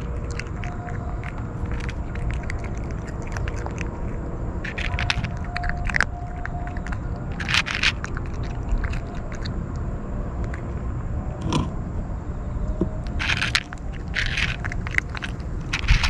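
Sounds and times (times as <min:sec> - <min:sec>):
kitten crunching dry kibble: 0:00.0 - 0:11.7, 0:12.9 - 0:16.0
steady low rumble: 0:00.0 - 0:16.0.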